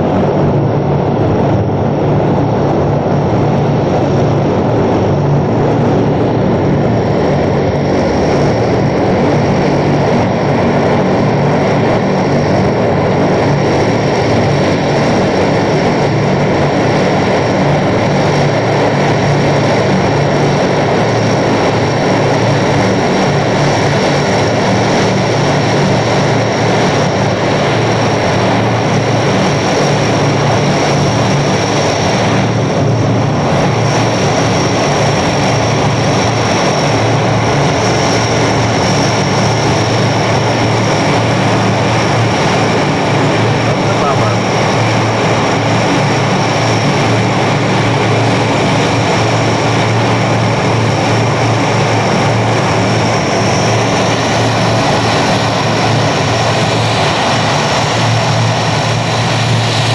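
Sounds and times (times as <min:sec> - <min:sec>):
high steady whine: 0:00.0 - 0:59.9
turboprop engines droning: 0:00.0 - 0:59.9.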